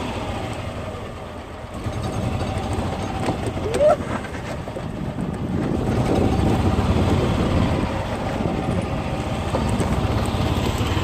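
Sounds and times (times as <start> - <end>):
golf cart rumbling: 0.0 - 11.0.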